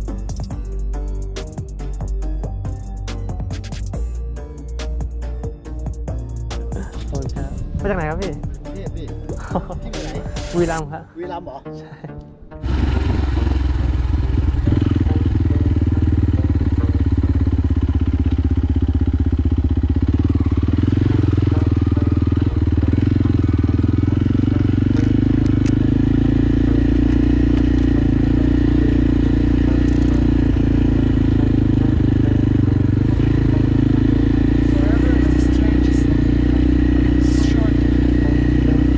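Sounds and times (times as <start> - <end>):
motorcycle engine running: 0.0 - 10.8, 12.6 - 38.9.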